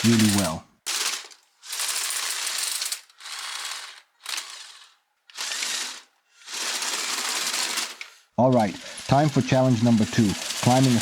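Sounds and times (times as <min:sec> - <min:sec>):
toy bulldozer grinding and clattering: 0:00.0 - 0:11.0.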